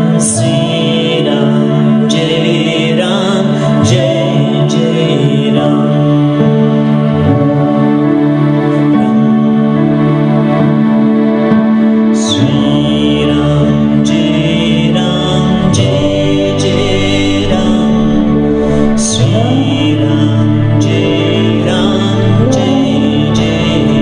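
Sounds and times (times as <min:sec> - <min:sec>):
sustained keyboard chords: 0:00.0 - 0:24.0.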